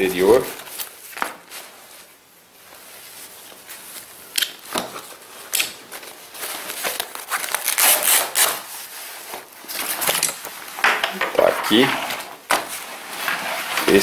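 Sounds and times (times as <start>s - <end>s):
fabric rustling and rubbing: 0.2s - 4.3s, 4.9s - 10.8s, 11.4s - 14.0s.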